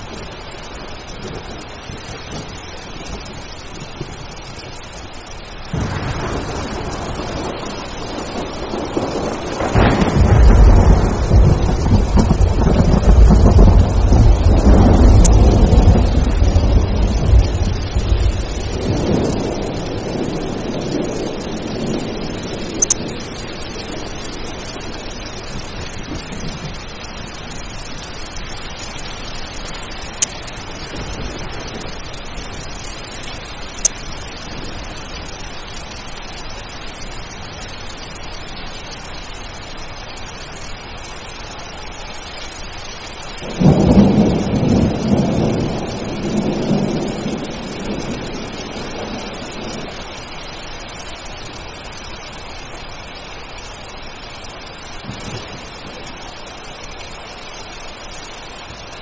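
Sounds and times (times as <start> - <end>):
thunder rumbling: 0.0 - 4.9, 5.6 - 39.0, 43.3 - 52.4, 54.9 - 56.3
steady rain: 0.0 - 59.0.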